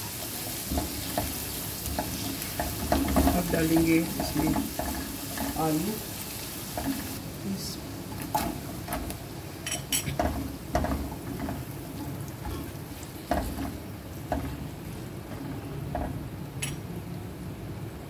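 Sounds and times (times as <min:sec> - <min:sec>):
potatoes sizzling in hot oil: 0:00.0 - 0:16.7
spatula knocking and scraping pan: 0:00.4 - 0:07.2, 0:08.1 - 0:16.8.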